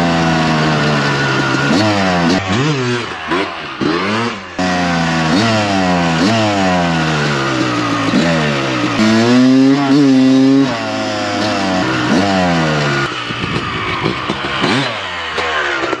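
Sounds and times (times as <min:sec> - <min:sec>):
engine throttle blips: 0:00.0 - 0:16.0
motocross bike engine accelerating: 0:00.0 - 0:16.0.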